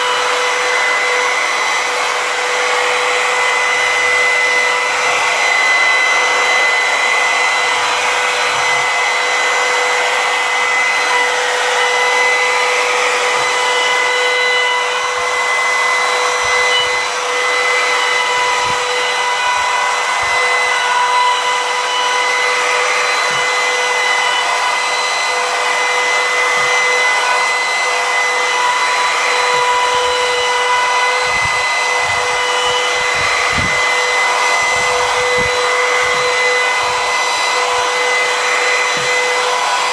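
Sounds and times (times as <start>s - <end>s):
router bit cutting wood: 0.0s - 39.9s
router motor whining: 0.0s - 39.9s.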